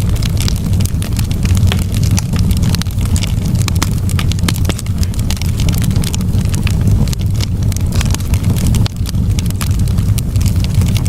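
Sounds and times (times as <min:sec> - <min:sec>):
campfire crackling and popping: 0:00.0 - 0:11.0
low fire rumble: 0:00.0 - 0:11.0.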